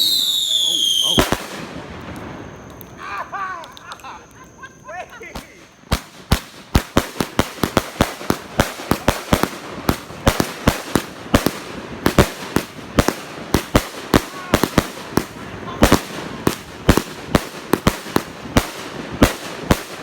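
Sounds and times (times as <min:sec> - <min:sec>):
firecrackers cracking: 0:00.0 - 0:20.0.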